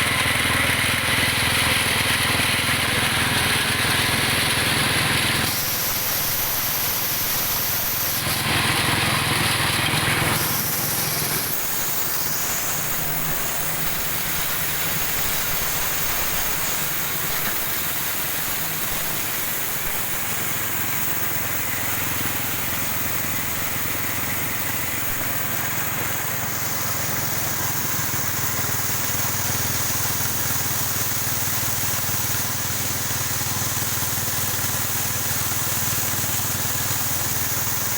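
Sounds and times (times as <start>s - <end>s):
small engine machine running: 0.0s - 37.9s.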